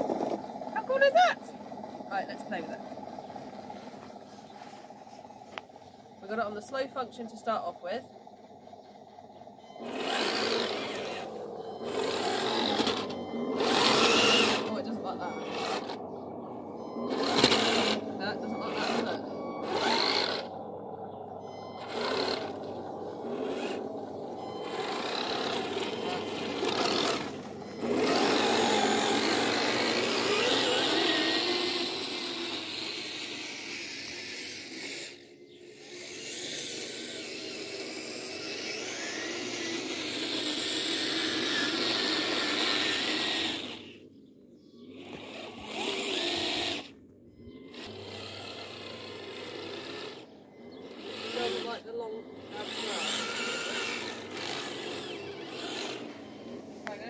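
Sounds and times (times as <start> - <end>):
toy tank motors whirring: 0.0 - 57.0.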